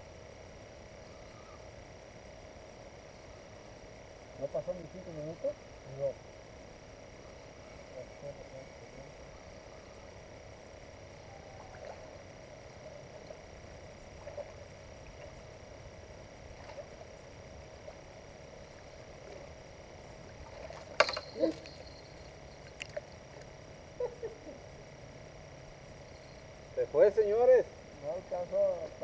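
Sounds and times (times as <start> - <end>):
faint night-time hum: 0.0 - 29.0.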